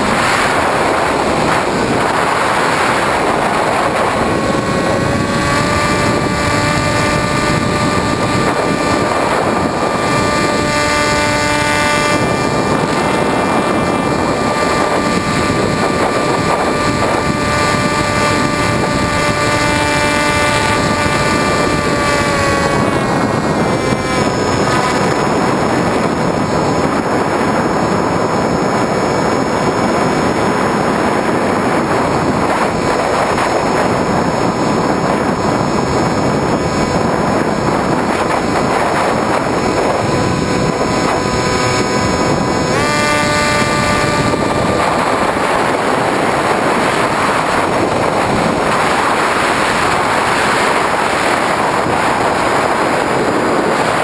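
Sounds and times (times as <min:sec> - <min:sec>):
electric motor and propeller whining: 0:00.0 - 0:54.0
wind rushing: 0:00.0 - 0:54.0.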